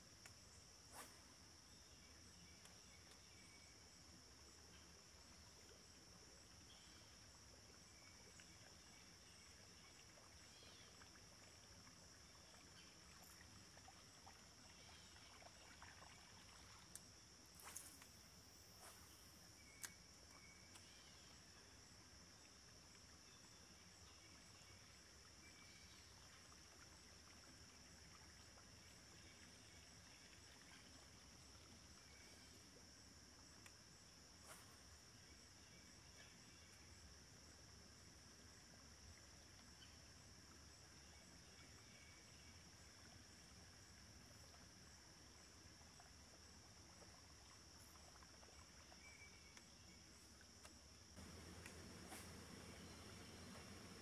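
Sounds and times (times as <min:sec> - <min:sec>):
crickets trilling: 0:00.1 - 0:54.0.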